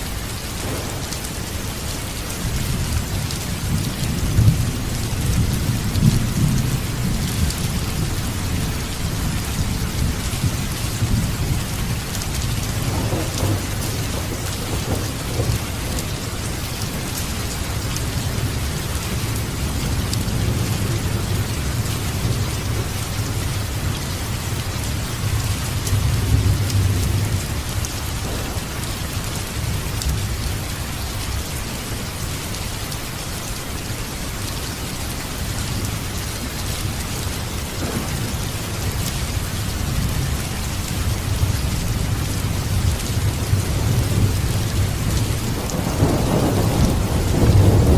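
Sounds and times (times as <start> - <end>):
heavy rain: 0.0 - 47.9
low rolling thunder: 0.1 - 31.4, 37.2 - 47.9.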